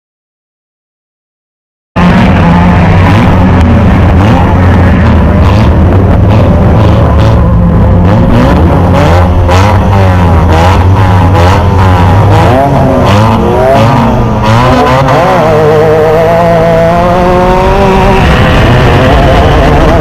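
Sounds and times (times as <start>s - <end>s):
race car engine revving: 2.0s - 20.0s.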